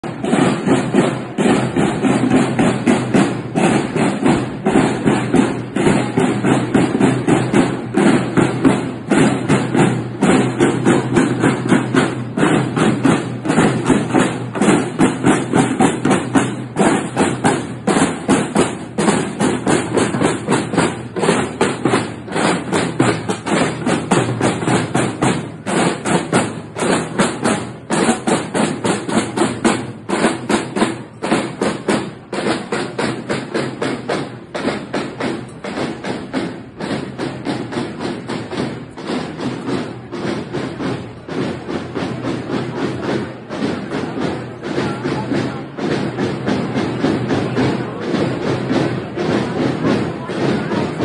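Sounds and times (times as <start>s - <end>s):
marching snare drums: 0.0s - 51.0s.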